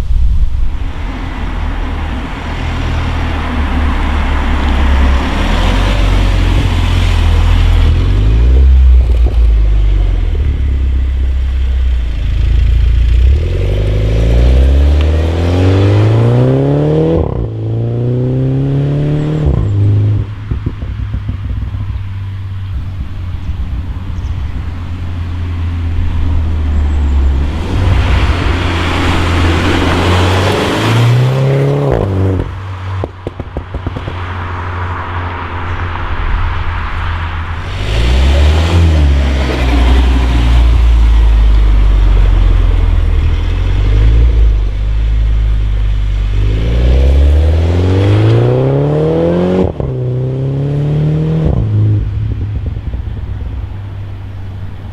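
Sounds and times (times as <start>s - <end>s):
turbocharged car engine revving: 1.4s - 22.0s, 22.7s - 53.8s.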